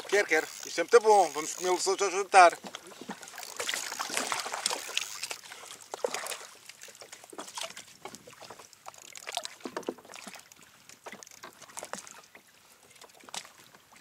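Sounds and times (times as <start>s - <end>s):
water sloshing around kayak: 0.0s - 14.0s.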